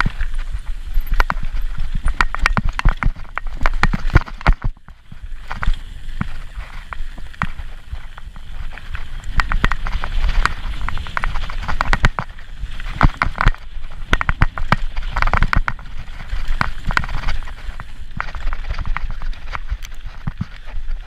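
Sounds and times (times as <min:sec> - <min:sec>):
bike rattling over rocks: 0:00.0 - 0:21.0.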